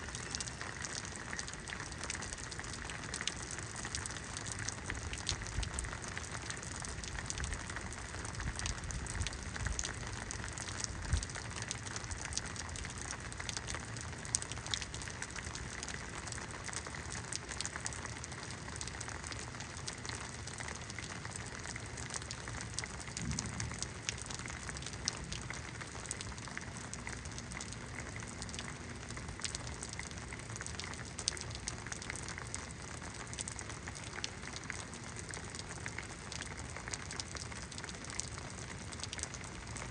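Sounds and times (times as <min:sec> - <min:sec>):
raindrops ticking on surfaces: 0:00.0 - 0:39.9
steady rain hissing: 0:00.0 - 0:39.9.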